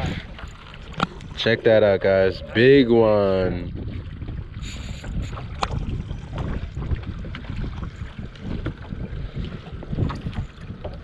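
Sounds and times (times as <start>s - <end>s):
water lapping around boat: 0.0s - 11.0s
wind buffeting microphone: 0.0s - 11.0s.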